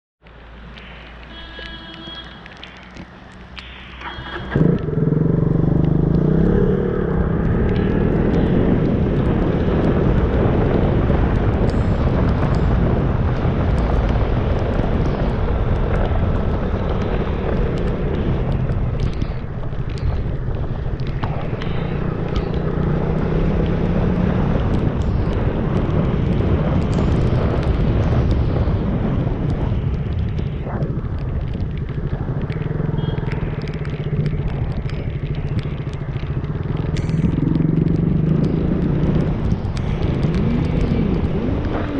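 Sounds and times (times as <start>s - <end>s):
motorcycle engine running: 4.1s - 41.9s
wind buffeting microphone: 4.5s - 41.9s.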